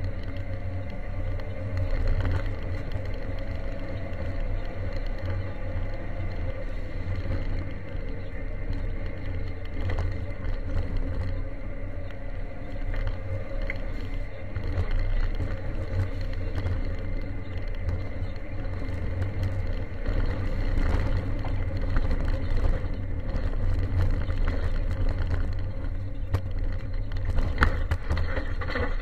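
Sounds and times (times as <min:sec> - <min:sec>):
car engine running hard: 0:00.0 - 0:29.0
gravel rattling underneath: 0:00.0 - 0:29.0.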